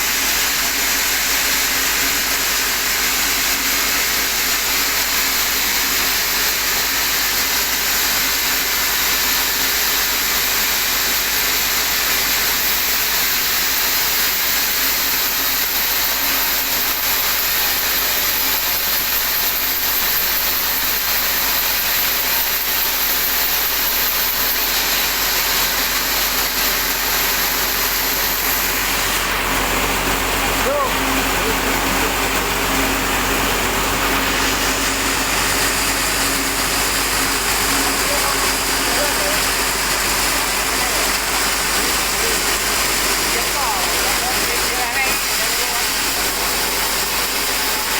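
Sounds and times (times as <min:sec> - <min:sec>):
sawmill saw cutting log: 0:00.0 - 0:47.9.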